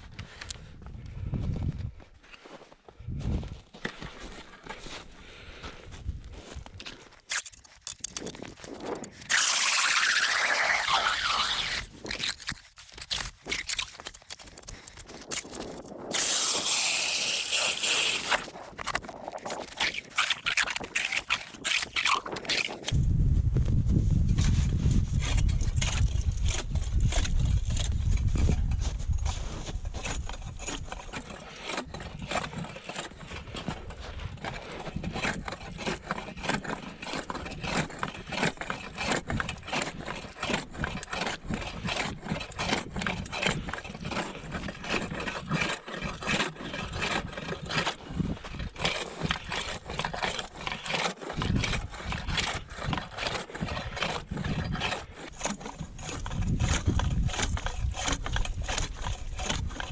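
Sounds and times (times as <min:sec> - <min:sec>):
ice saw rasping at ice: 0:06.8 - 0:23.0, 0:24.4 - 0:59.9.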